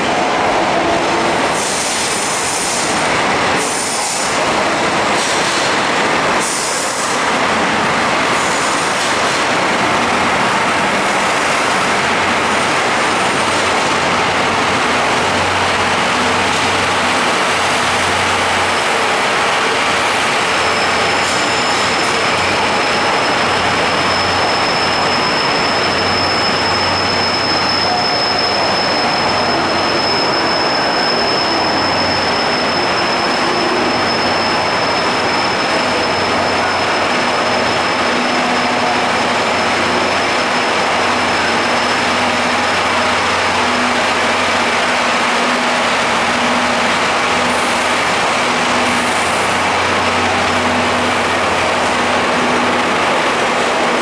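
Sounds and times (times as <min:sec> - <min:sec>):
train coaches running on rails: 0:00.0 - 0:54.0.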